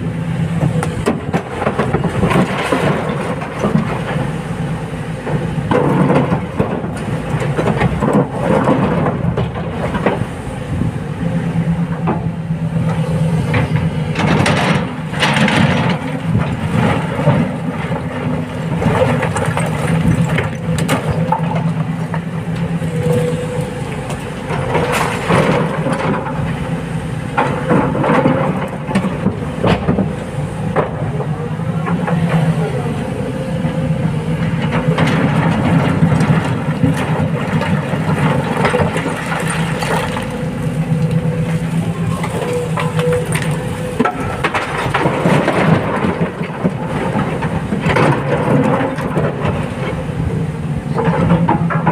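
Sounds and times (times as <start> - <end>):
diesel excavator engine: 0.0 - 51.9.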